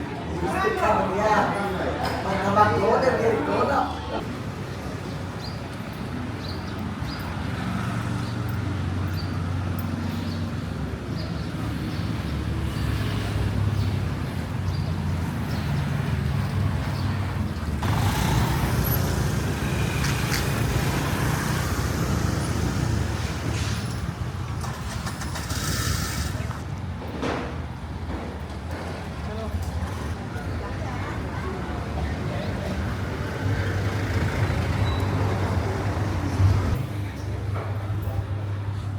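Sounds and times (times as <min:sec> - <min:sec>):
city street traffic: 0:00.0 - 0:38.9.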